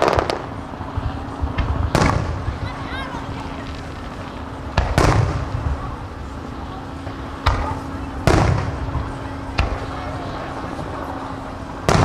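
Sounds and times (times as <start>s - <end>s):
fireworks booming: 0.0s - 6.3s, 7.1s - 11.0s, 11.8s - 12.0s.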